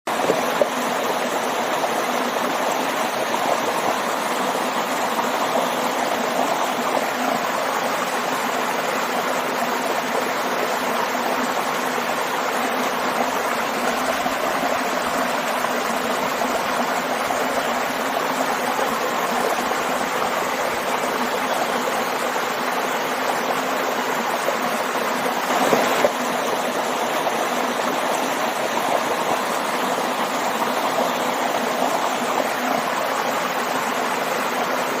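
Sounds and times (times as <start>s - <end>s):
waterfall and stream rushing: 0.1s - 35.0s.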